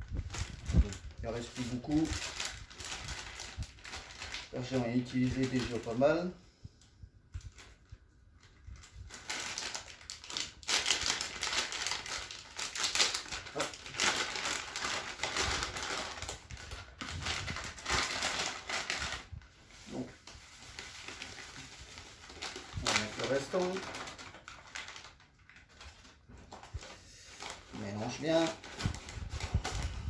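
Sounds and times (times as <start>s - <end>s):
plastic bag crinkling: 0.0s - 6.3s, 7.4s - 30.0s.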